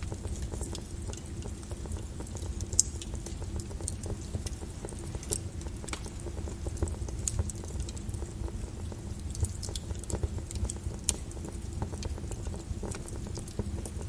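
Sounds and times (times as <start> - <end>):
rain falling: 0.0 - 14.0
wood fire crackling: 0.0 - 14.0.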